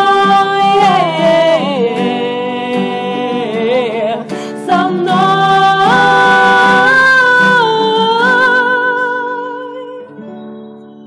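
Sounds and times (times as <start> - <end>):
women singing in harmony: 0.0 - 10.2
classical guitar: 0.0 - 11.0.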